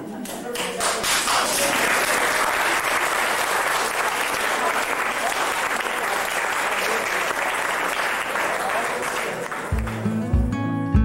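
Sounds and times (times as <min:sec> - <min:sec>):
audience applauding: 0:00.5 - 0:10.2.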